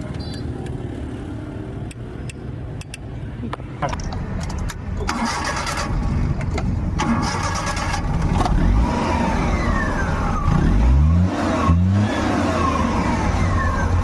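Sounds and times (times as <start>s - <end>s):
car engine starting and running: 0.0s - 14.0s.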